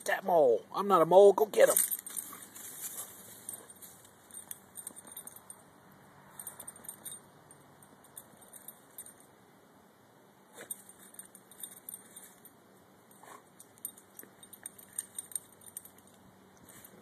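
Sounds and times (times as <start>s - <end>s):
collar tags jingling: 1.0s - 9.4s, 10.6s - 17.0s.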